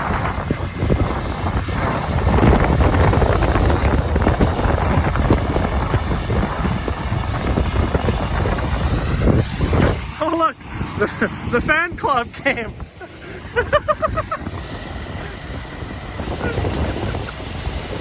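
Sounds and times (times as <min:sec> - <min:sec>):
farm machinery rumble: 0:00.0 - 0:18.0
wind buffeting microphone: 0:00.0 - 0:18.0.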